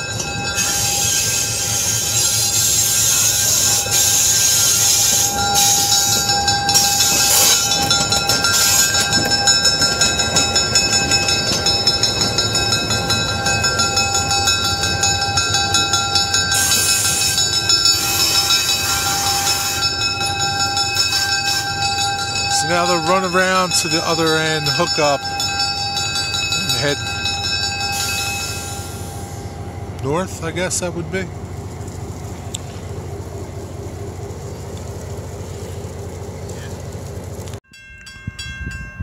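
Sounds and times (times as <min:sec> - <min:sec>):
diesel locomotive engine running: 0:00.0 - 0:37.6.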